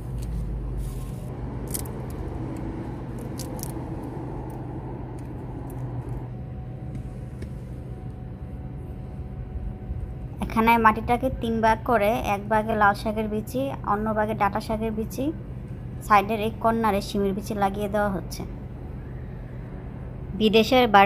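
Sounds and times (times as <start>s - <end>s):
low traffic or machinery drone: 0.0s - 21.0s.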